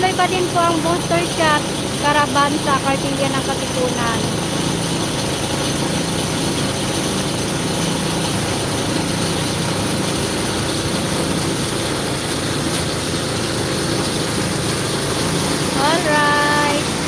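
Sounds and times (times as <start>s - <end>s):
truck engine running: 0.0s - 17.0s
water jet hissing: 0.0s - 17.0s.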